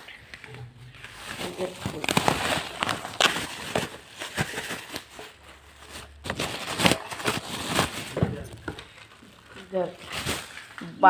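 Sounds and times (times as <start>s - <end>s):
packaging crinkling and tearing: 0.0s - 10.9s.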